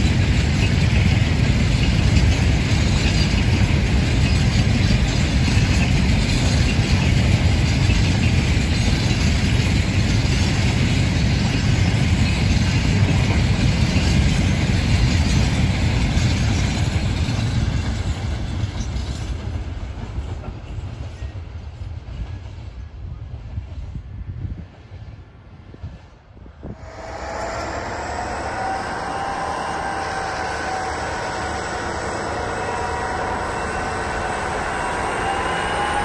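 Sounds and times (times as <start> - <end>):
freight train rolling on rails: 0.0 - 36.0.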